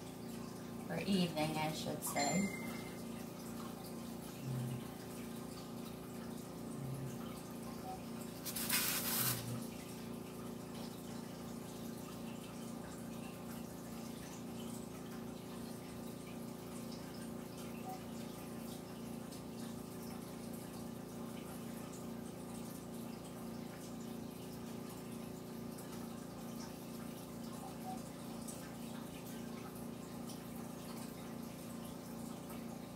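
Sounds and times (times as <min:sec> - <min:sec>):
steady background hum: 0:00.0 - 0:32.9.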